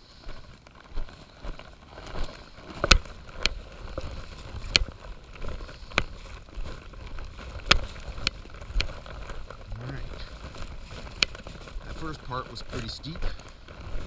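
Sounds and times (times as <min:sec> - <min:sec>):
soft rustling: 0:00.0 - 0:14.0
footsteps tapping on wet rock: 0:00.3 - 0:14.0.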